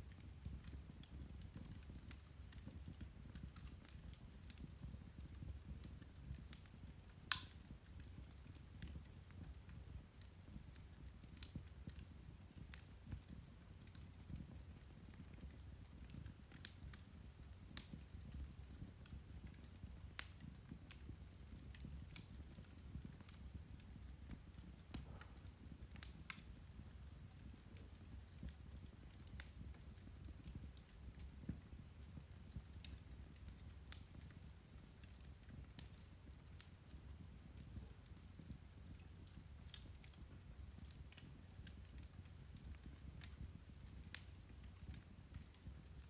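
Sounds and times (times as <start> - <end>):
peat fire crackling: 0.0 - 46.0.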